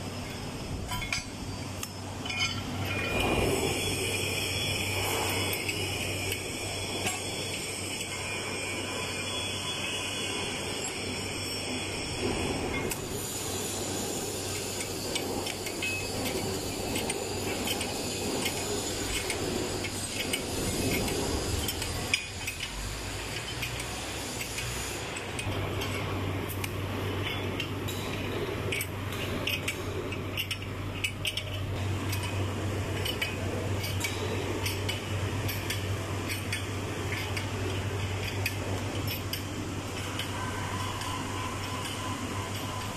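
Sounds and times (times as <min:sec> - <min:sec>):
steady low hum: 0:00.0 - 0:42.9
metal clinks and knocks: 0:00.1 - 0:08.3, 0:14.3 - 0:42.9.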